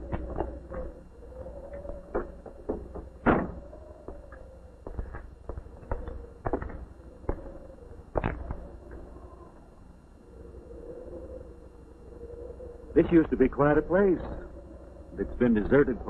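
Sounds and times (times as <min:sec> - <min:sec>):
faint steady tone: 0:00.0 - 0:16.0.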